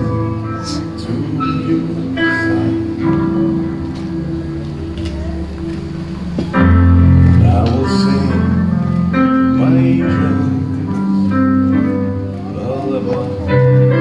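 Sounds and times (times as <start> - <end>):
slow song with sustained chords: 0.0 - 14.0.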